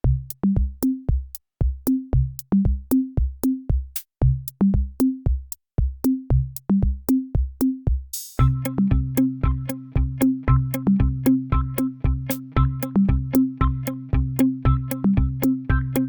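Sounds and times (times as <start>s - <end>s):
drum machine bass thumps: 0.0s - 16.0s.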